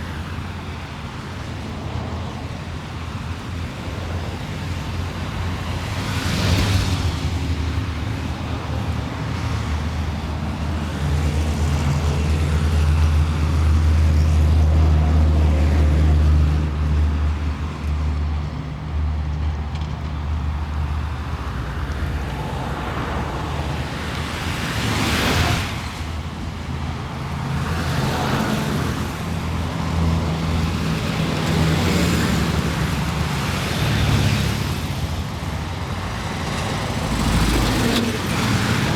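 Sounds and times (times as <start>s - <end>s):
cars passing by: 0.0s - 38.9s
traffic engine drone: 0.0s - 38.9s.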